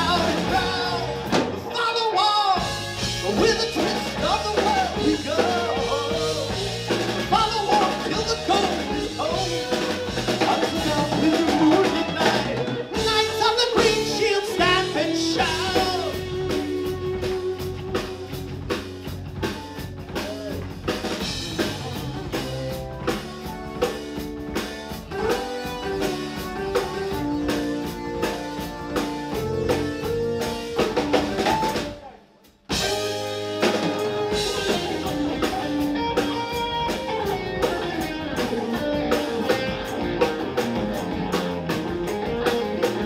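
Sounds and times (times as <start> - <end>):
bass: 0.0 - 43.0
drum kit: 0.0 - 43.0
electric guitar: 0.0 - 43.0
keyboard: 0.0 - 43.0.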